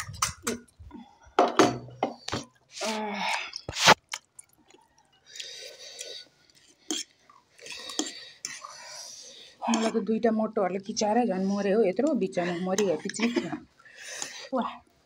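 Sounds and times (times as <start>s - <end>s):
people chewing and slurping: 0.0s - 10.1s, 10.9s - 15.0s.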